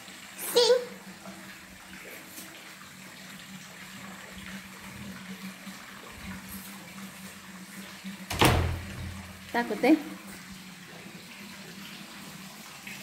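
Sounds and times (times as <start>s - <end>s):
running water hiss: 0.0s - 13.0s.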